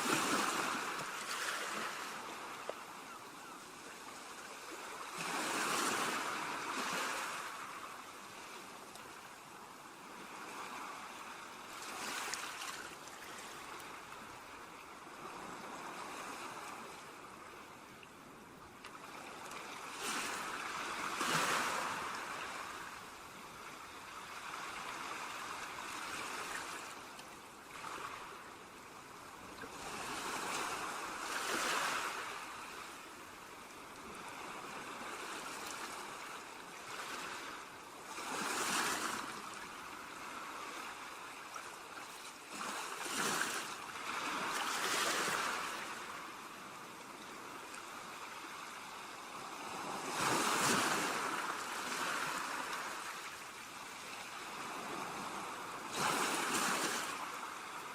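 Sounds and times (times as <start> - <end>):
ocean waves breaking on beach: 0.0 - 17.9, 18.9 - 57.9.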